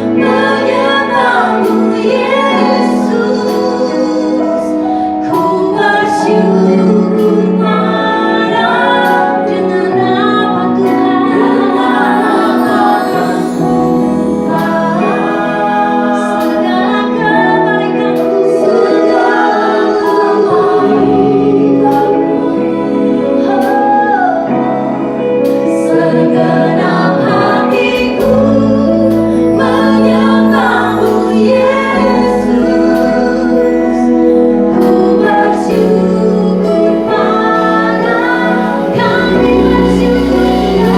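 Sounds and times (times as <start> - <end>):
bass notes: 0.0 - 40.9
group of singers: 0.0 - 40.9.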